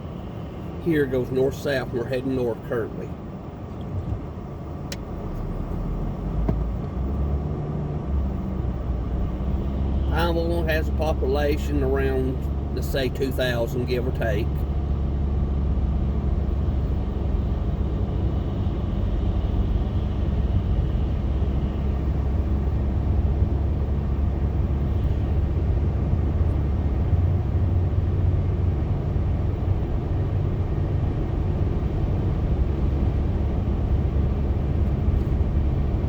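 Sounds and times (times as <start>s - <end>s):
car road noise from inside: 0.0s - 36.0s.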